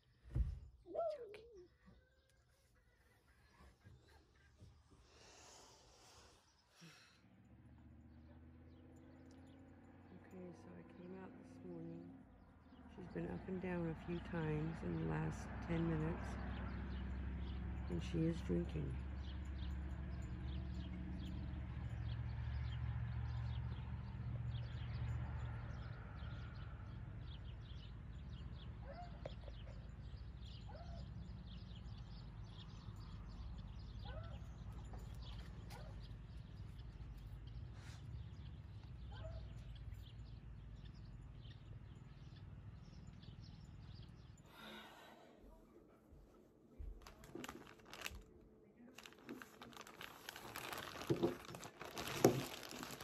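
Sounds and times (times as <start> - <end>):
birds chirping: 0.0 - 46.1.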